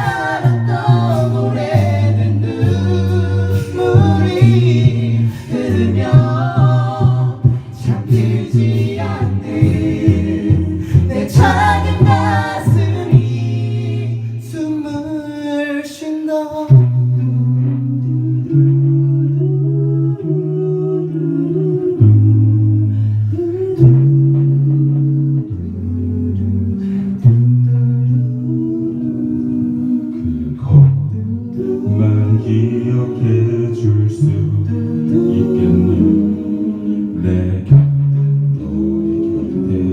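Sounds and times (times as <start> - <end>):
vocal group singing in harmony: 0.0 - 39.9.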